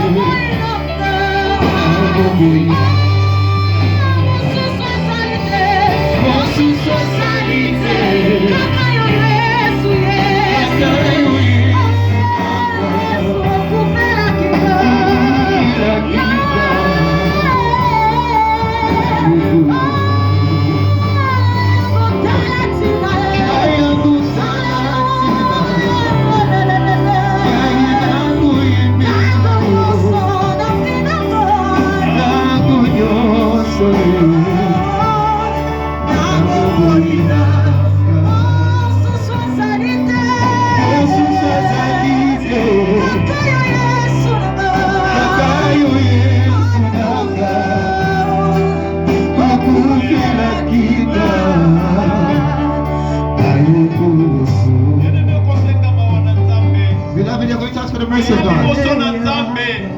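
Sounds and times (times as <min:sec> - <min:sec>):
band with bass line: 0:00.0 - 0:59.9
voices singing: 0:00.0 - 0:59.9.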